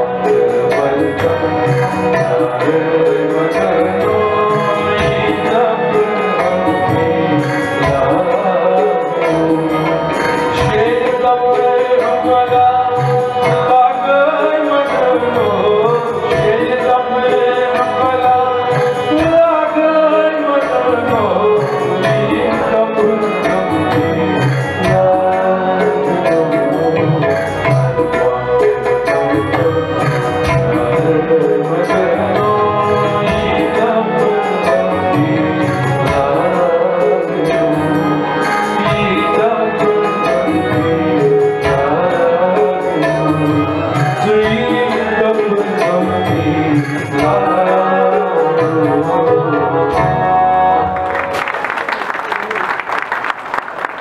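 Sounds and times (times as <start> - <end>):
man singing: 0.0 - 51.0
harmonium chords: 0.0 - 54.0
tabla beat: 0.0 - 54.0.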